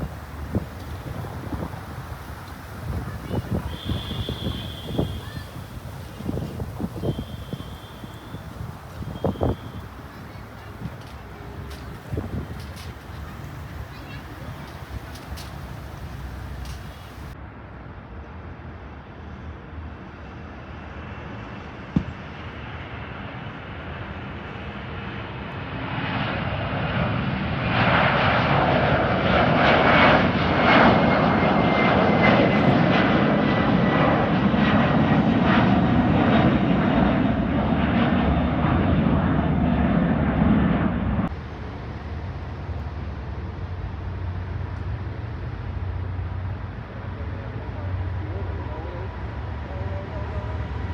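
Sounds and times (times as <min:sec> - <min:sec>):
jet airliner engines: 0:00.0 - 0:50.9.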